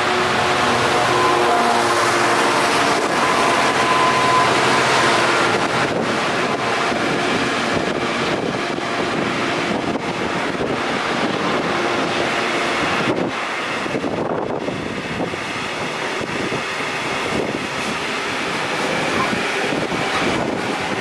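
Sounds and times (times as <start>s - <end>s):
diesel locomotive passing: 0.0s - 21.0s
wagons rumbling past: 0.0s - 21.0s.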